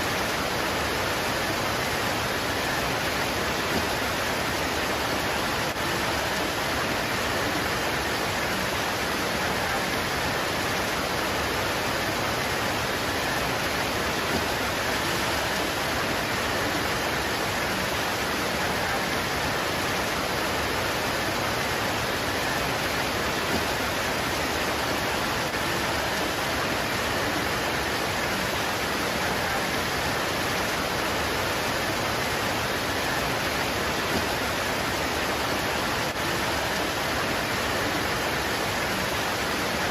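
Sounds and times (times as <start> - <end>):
rain pouring on leaves: 0.0 - 39.9.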